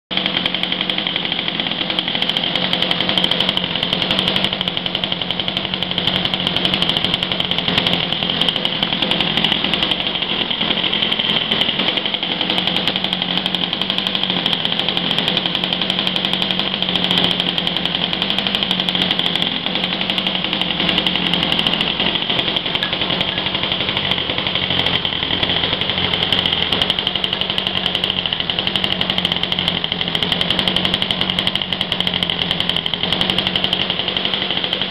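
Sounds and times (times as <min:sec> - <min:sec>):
model airplane engine buzzing: 0:00.1 - 0:34.9.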